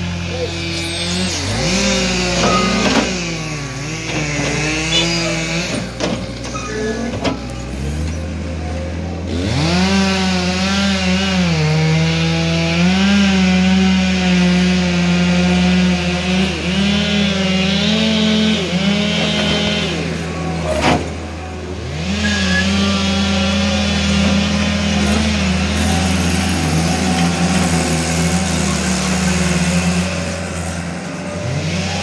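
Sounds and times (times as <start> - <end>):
loader diesel engine under load: 0.0 - 32.0.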